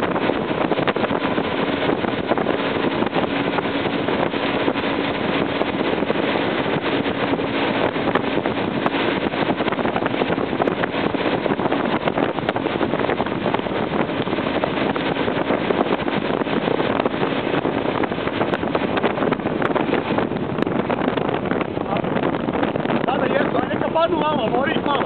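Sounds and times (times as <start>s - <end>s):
churning boat wake: 0.0s - 25.0s
motorboat running at speed: 0.0s - 25.0s
wind buffeting microphone: 0.0s - 25.0s.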